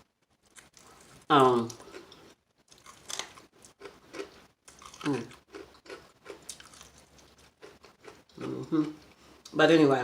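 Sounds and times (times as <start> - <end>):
crunchy chewing: 0.4 - 9.2.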